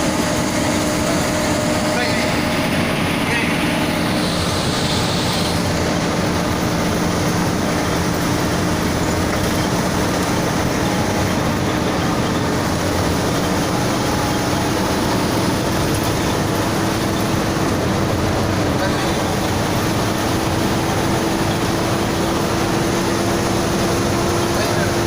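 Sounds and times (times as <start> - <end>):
bus engine drone: 0.0 - 25.0
rushing noise: 0.0 - 25.0.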